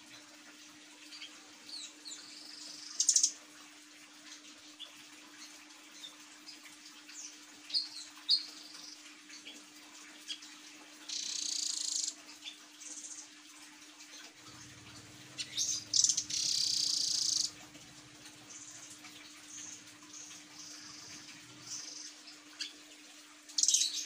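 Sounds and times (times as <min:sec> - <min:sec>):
bird chirps and trills: 0:01.0 - 0:03.4, 0:04.3 - 0:09.6, 0:10.2 - 0:13.3, 0:14.5 - 0:22.8, 0:23.6 - 0:24.0.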